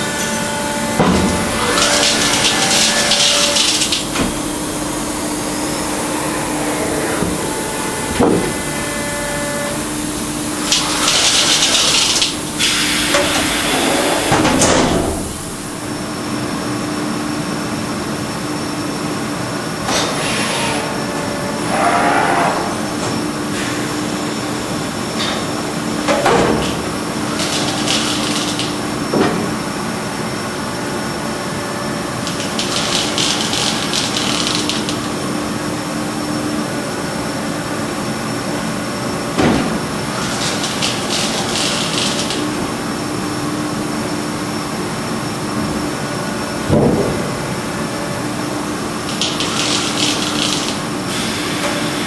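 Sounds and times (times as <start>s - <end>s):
machine hum: 0.0s - 20.0s, 20.6s - 52.0s.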